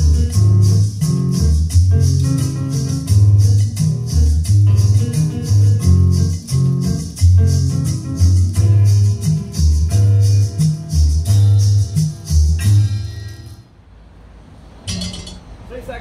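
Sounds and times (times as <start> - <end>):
steady shaker: 0.0 - 13.5
loud music with bass and guitar: 0.0 - 13.6.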